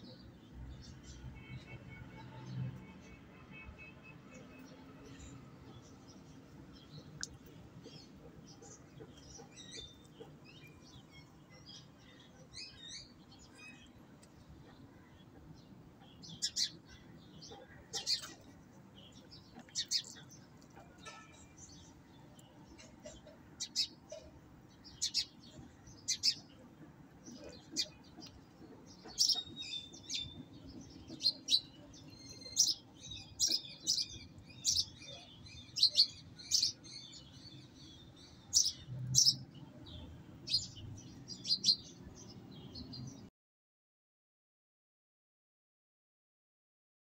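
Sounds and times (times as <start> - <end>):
birds chirping: 0.0 - 43.3.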